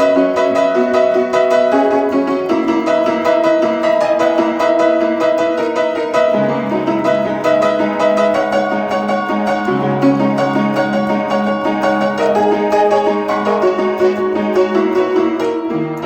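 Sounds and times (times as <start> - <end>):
instrumental music repeated notes: 0.0 - 16.0.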